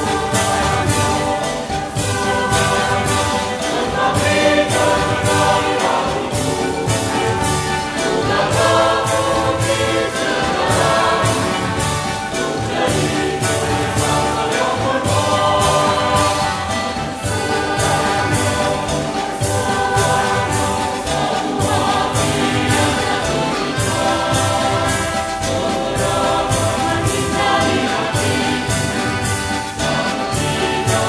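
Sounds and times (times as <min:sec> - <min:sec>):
instrumental accompaniment: 0:00.0 - 0:31.0
mixed choir singing a march: 0:00.0 - 0:31.0.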